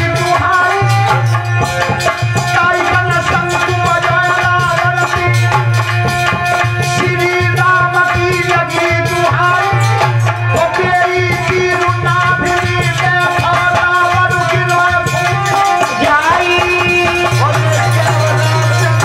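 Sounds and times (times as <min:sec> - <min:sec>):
hand drum beat: 0:00.0 - 0:19.0
harmonium melody: 0:00.0 - 0:19.0
jingling percussion: 0:00.0 - 0:19.0.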